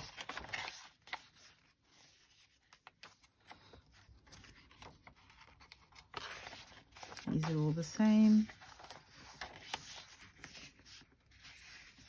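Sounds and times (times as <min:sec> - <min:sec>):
paper pages rustling and tapping: 0:00.0 - 0:12.0.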